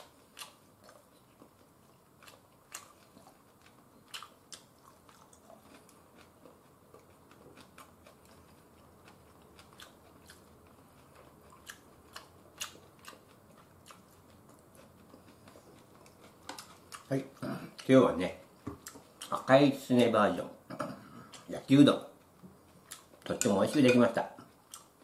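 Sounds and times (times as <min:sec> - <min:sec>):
person chewing noodles: 0:00.0 - 0:19.5, 0:20.7 - 0:25.0.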